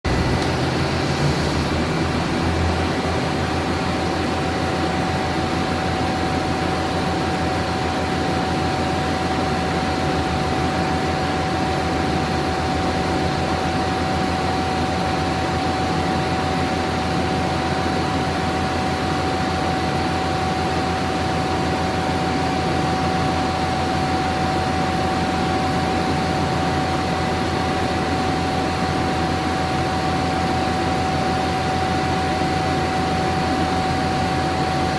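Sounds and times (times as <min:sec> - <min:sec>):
high whine: 0:00.0 - 0:34.9
industrial machinery hum and hiss: 0:00.1 - 0:34.9.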